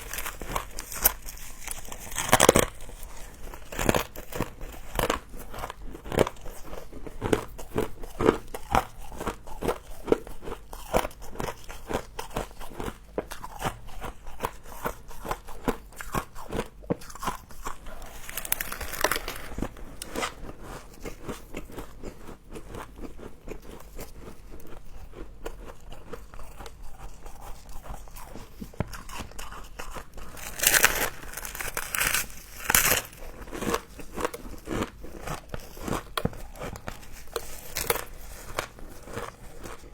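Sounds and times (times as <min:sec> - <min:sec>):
frost crunching when chewed: 0:00.0 - 0:39.9.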